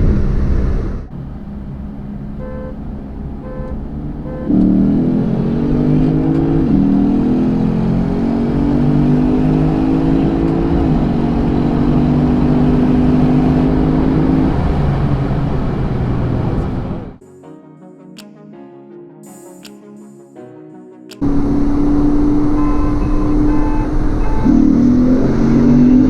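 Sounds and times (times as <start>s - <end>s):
car engine accelerating: 0.0s - 17.2s, 21.2s - 26.0s.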